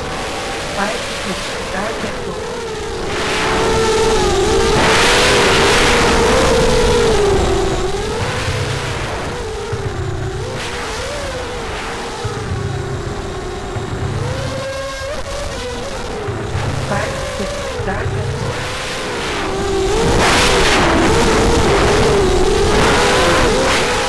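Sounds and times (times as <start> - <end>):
drone motors whining: 0.0 - 24.0
loud rushing noise: 0.6 - 24.0.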